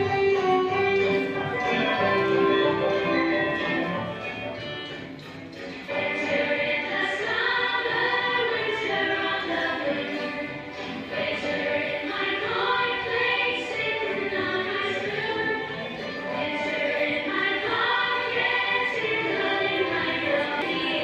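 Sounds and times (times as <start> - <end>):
choir singing: 0.0 - 4.6, 5.8 - 21.0
musical backing: 0.0 - 21.0.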